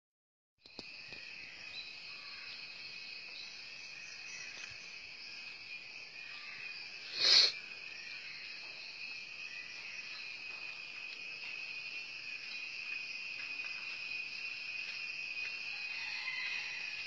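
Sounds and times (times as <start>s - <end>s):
insects chirring: 0.6s - 17.0s.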